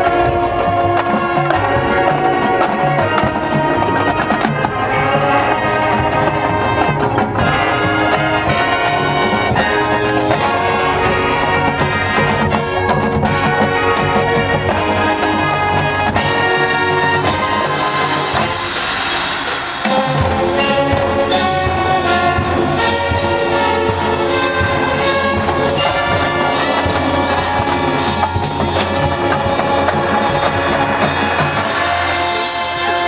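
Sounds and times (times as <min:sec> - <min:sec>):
brass chords: 0:00.0 - 0:33.0
marching drums: 0:00.0 - 0:33.0.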